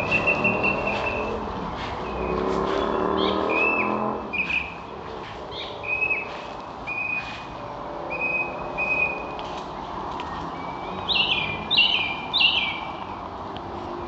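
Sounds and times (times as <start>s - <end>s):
birds whistling and chirping: 0.0s - 14.0s
low engine hum: 0.0s - 14.0s.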